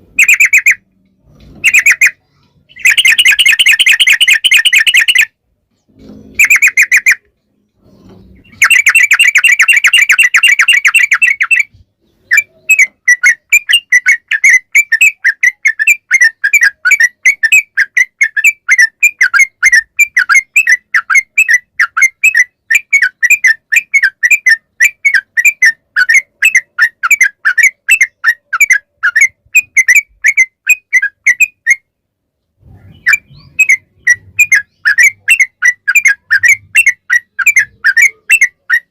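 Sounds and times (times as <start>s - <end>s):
quick repeated bird chirping: 0.0s - 32.0s, 32.6s - 38.9s
bulbul song with rapid trill: 1.6s - 5.4s, 8.4s - 31.9s, 32.9s - 38.9s.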